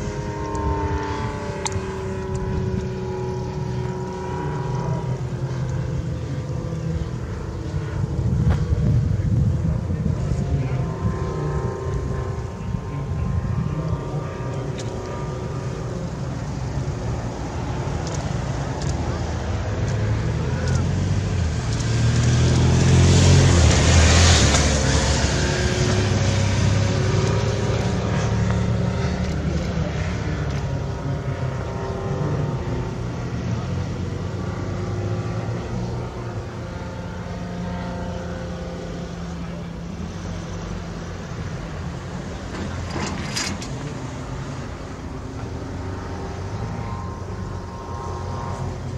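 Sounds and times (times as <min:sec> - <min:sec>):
aircraft engine and propeller: 0:00.0 - 0:48.9.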